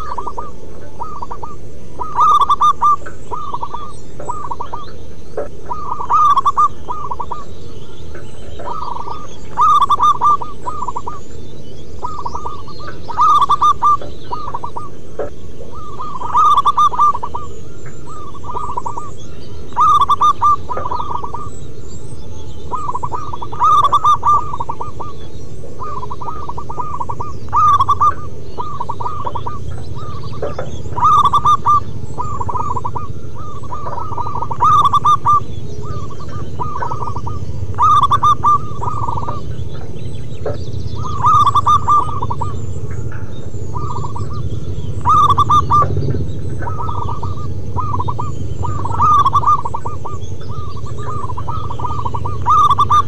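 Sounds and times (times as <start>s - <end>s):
dove cooing: 0.0s - 21.8s, 22.6s - 53.0s
low background noise: 0.0s - 53.0s.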